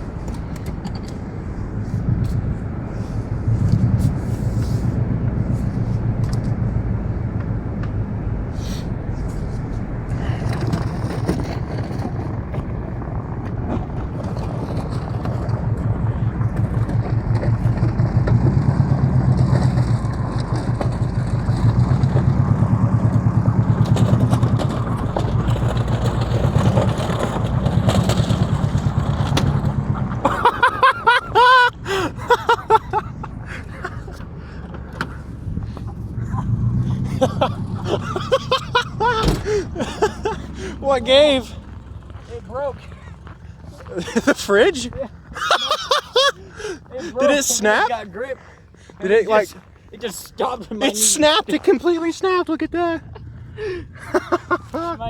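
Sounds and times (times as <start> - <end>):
car engine running under load: 0.0 - 55.0.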